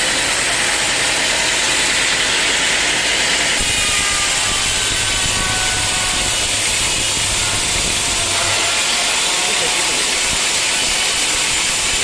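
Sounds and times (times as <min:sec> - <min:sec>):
low motor hum: 0:00.0 - 0:12.0
saw grinding through log: 0:00.0 - 0:12.0.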